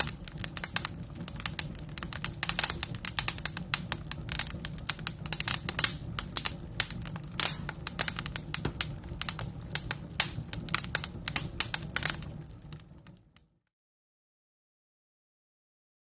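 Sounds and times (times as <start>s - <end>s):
wood fire crackling: 0.0s - 13.6s
low rumble of flames: 0.0s - 13.7s.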